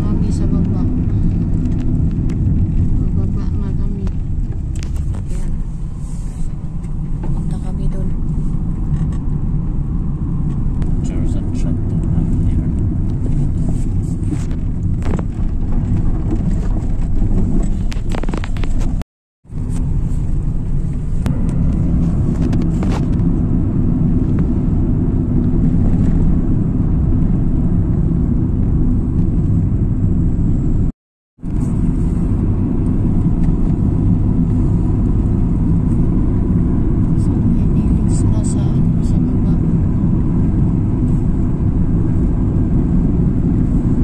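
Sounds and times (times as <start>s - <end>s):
car interior road rumble: 0.0s - 44.0s.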